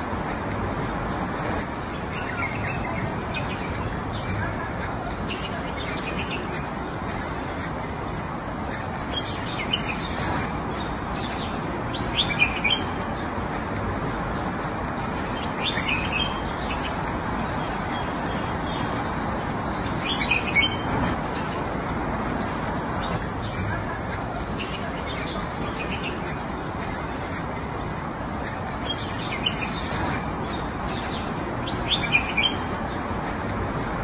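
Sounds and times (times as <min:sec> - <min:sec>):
small birds chirping: 0:00.0 - 0:34.0
steady background hiss: 0:00.0 - 0:34.0.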